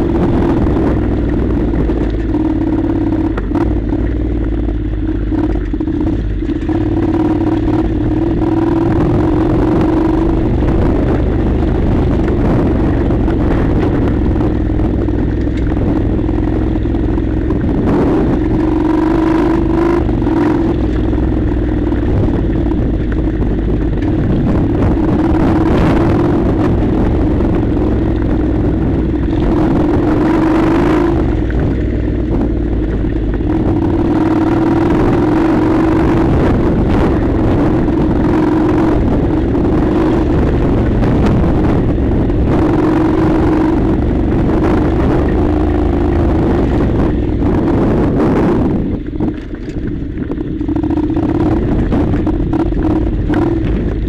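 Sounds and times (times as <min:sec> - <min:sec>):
motorcycle engine cruising: 0:00.0 - 0:54.0
rumble and rattle on dirt track: 0:00.0 - 0:54.0.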